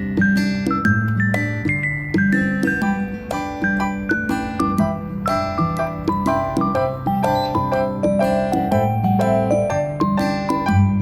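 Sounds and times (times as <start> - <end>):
melody of short struck notes: 0.0 - 11.0.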